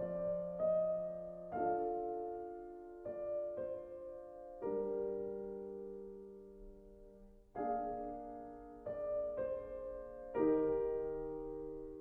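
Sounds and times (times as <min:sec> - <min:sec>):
soft slow piano music: 0:00.0 - 0:12.0.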